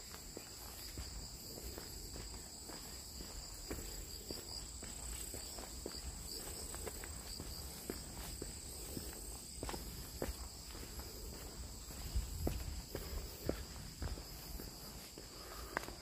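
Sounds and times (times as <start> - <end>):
footsteps on dirt trail: 0.0 - 16.0
insects chirring: 0.0 - 16.0.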